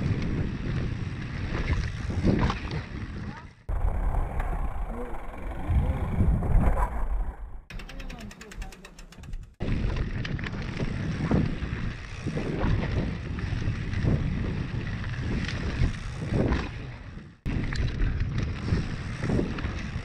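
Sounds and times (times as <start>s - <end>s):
mountain bike rattling: 0.0s - 20.0s
wind buffeting microphone: 0.0s - 20.0s.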